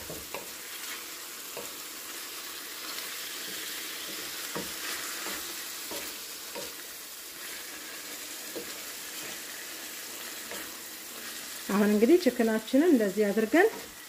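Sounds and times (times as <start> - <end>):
spatula scraping and tapping pan: 0.0 - 11.7
chicken sizzling in oil: 0.0 - 14.0.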